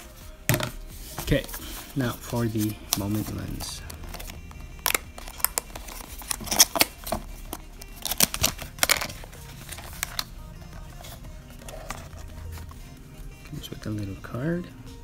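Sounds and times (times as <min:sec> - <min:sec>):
cardboard box being unboxed: 0:00.5 - 0:12.8.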